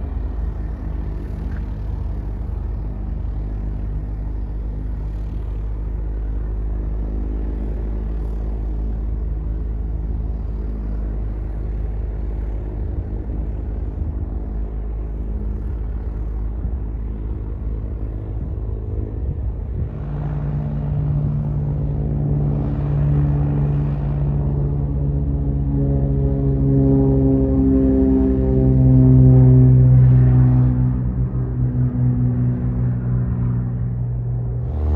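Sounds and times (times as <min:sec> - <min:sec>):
propeller aircraft engine rumbling: 0:00.0 - 0:34.9.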